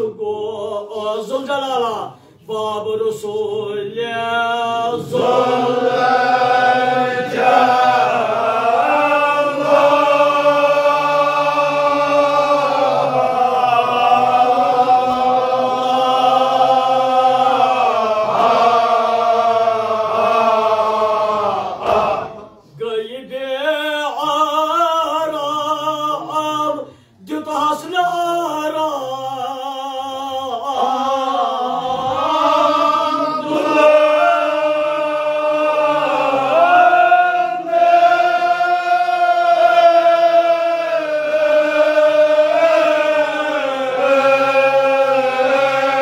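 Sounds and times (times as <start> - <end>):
men chanting together: 0.0 - 46.0.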